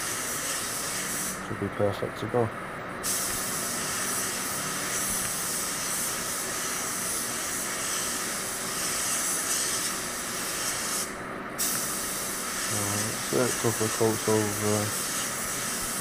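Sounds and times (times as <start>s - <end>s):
spray gun hissing: 0.0s - 1.5s, 3.0s - 16.0s.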